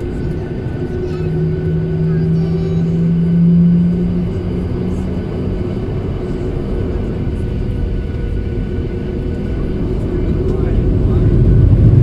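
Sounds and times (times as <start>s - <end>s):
airliner engine rumble in cabin: 0.0s - 12.0s
low hum: 0.0s - 12.0s.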